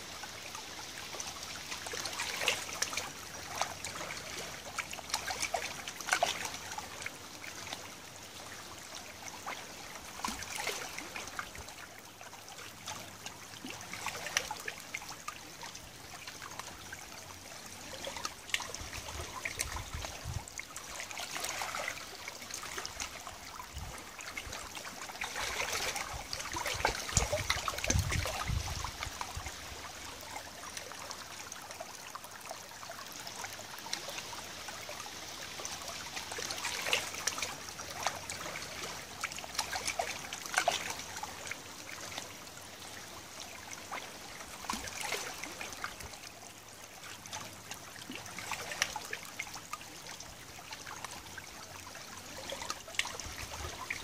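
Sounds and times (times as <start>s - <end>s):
river water lapping over stones: 0.0s - 54.0s.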